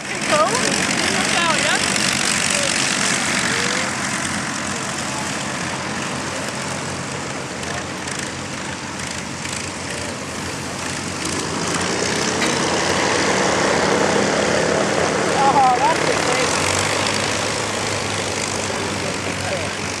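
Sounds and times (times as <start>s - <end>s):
propeller aircraft engines taxiing: 0.0s - 20.0s.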